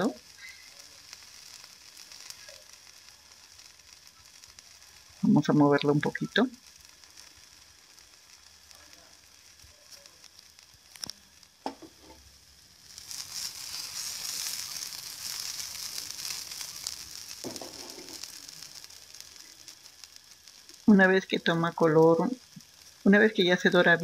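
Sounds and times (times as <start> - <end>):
batter sizzling in a pan: 0.0 - 24.0.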